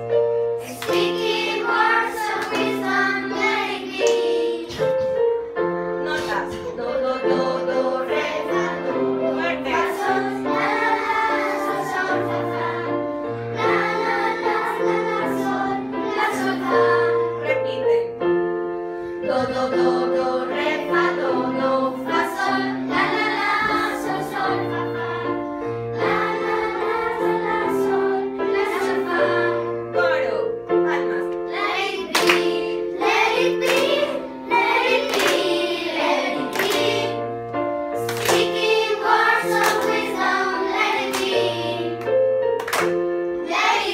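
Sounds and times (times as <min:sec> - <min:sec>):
children singing: 0:00.6 - 0:05.0, 0:06.5 - 0:17.4, 0:19.2 - 0:29.9, 0:31.5 - 0:37.3, 0:38.2 - 0:42.0, 0:43.4 - 0:43.9.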